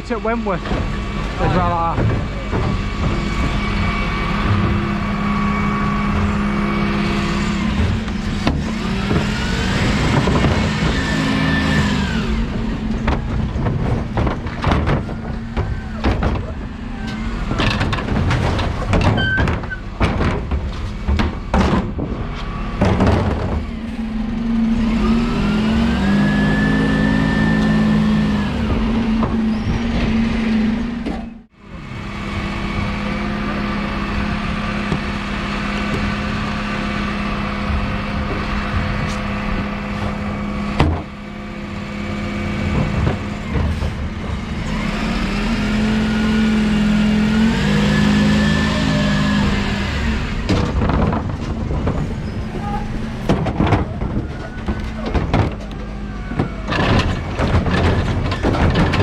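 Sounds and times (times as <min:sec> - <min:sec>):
cab rattling knocks and clatters: 0:00.0 - 0:24.1, 0:34.2 - 0:48.6, 0:49.2 - 0:59.0
truck diesel engine: 0:00.0 - 0:59.0.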